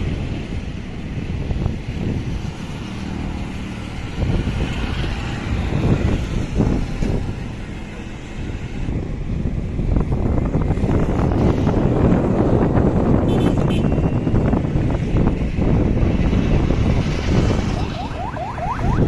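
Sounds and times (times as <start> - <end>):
rumble of passing vehicles: 0.0 - 19.0.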